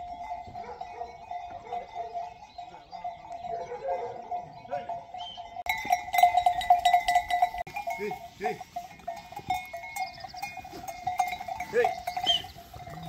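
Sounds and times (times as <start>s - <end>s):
livestock bells clanking: 0.0s - 13.0s.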